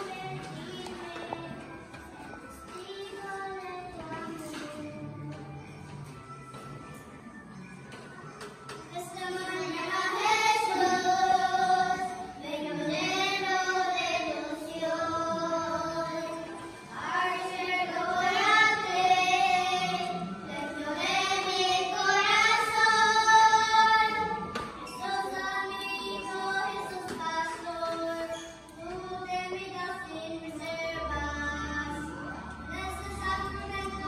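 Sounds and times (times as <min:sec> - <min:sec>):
children singing: 0:00.0 - 0:05.9, 0:08.7 - 0:34.0.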